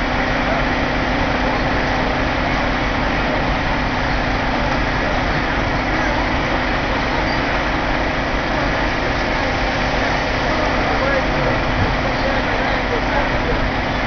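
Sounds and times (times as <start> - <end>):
fire engines running: 0.0 - 14.0.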